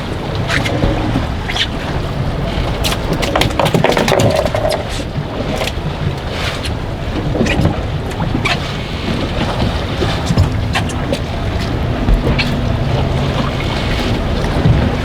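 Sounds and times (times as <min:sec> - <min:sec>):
gusty wind buffeting microphone: 0:00.0 - 0:15.0
water slapping against hull: 0:00.0 - 0:15.0.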